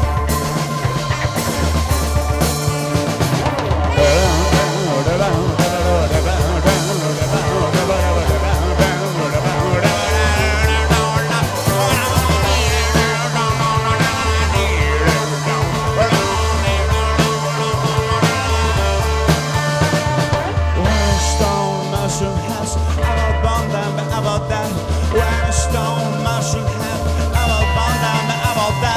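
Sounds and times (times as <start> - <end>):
low bass figure: 0.0 - 28.4
bending guitar lines: 0.0 - 28.9
drums: 0.0 - 28.9.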